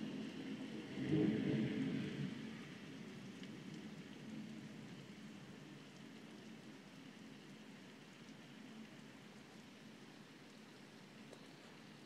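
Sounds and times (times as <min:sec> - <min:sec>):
faint steady rain: 0:00.0 - 0:12.0.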